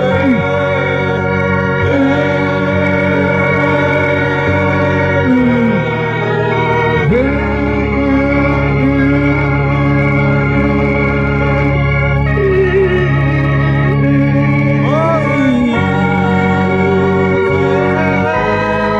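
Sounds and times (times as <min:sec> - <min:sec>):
electronic organ music: 0:00.0 - 0:18.9.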